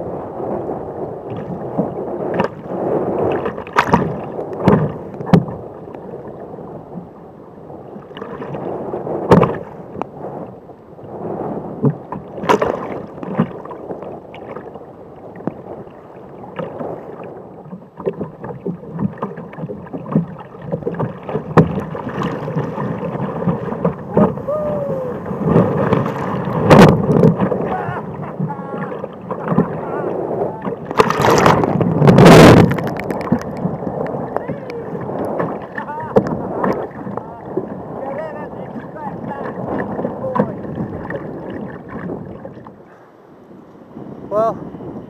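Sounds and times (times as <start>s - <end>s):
churning surf water: 0.0s - 45.0s
waves and paddle splashes: 0.0s - 45.0s.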